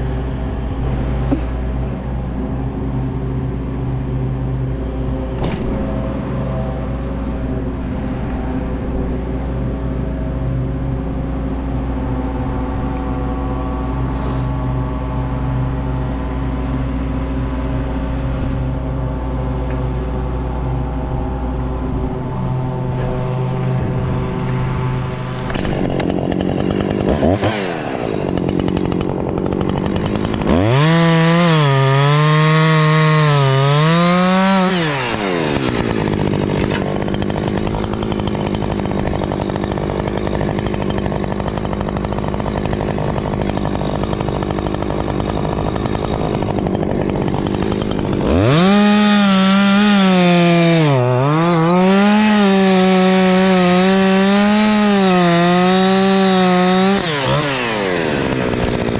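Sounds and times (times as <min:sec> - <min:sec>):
chainsaw cutting wood at full throttle: 0:00.0 - 0:58.9
chainsaw idling: 0:00.0 - 0:58.9.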